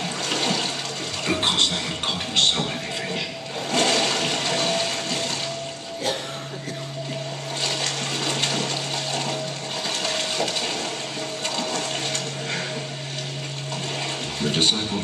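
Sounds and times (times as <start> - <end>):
steady low hum: 0.0 - 15.0
water rushing and splashing: 0.0 - 15.0.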